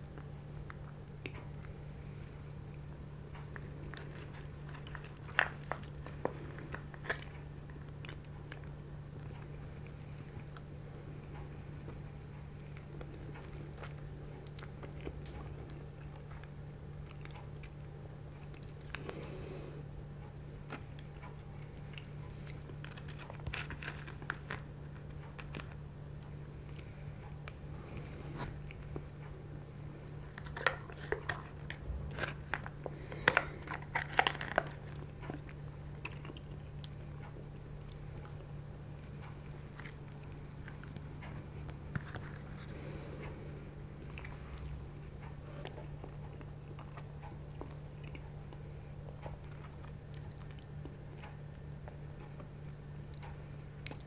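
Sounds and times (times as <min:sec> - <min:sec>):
person chewing cake: 0:00.0 - 0:54.0
steady low hum: 0:00.0 - 0:54.0.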